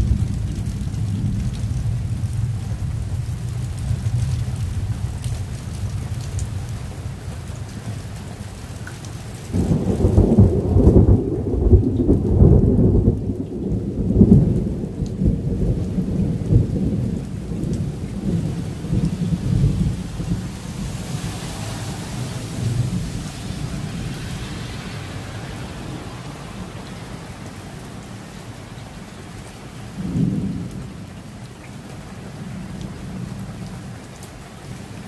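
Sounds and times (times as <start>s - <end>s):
thunder rumbling: 0.0s - 8.4s, 9.5s - 29.3s, 29.9s - 31.6s
rain falling: 0.0s - 35.0s.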